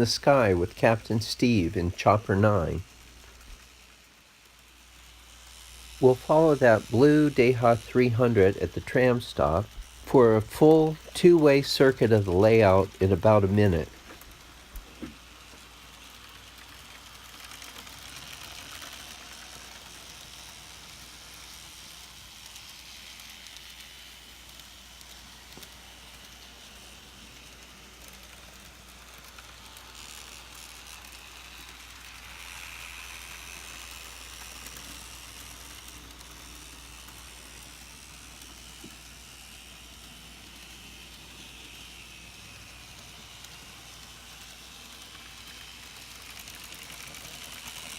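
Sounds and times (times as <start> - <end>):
model tram motor whirring: 0.0 - 47.9.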